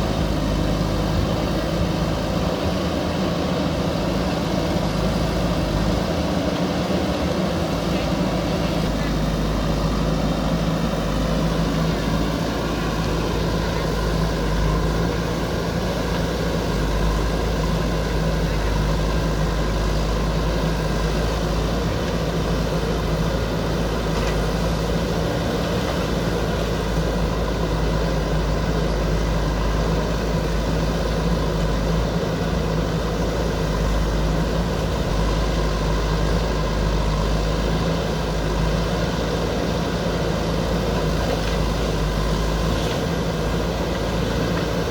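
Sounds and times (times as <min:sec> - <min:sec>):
diesel engine running steadily: 0:00.0 - 0:44.9.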